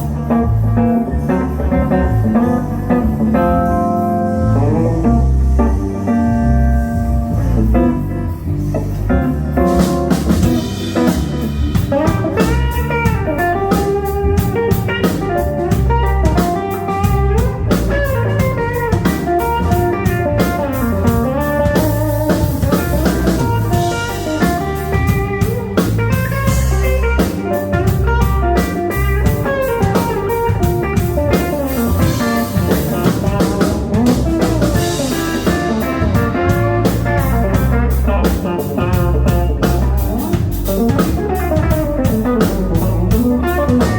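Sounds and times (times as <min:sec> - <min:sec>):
bass guitar: 0:00.0 - 0:43.9
drum kit: 0:00.0 - 0:43.9
electric guitar lead lines: 0:00.0 - 0:43.9.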